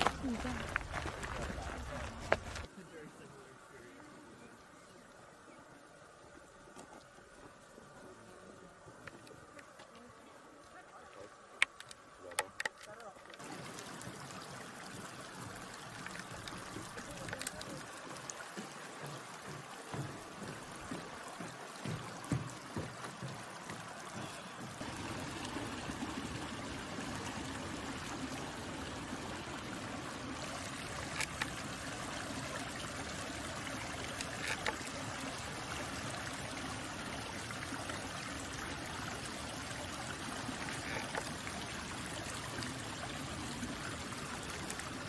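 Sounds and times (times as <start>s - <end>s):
stream trickling over rocks: 0.0s - 45.0s.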